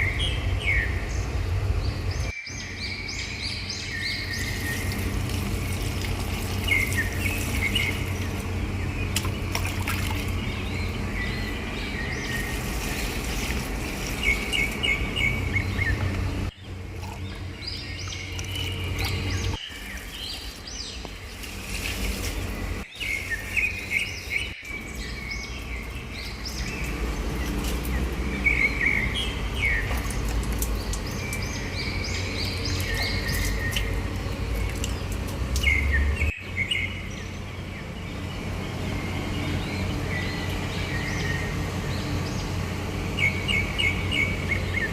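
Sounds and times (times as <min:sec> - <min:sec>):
small birds chirping: 0:00.0 - 0:44.9
steady low rumble: 0:00.0 - 0:44.9.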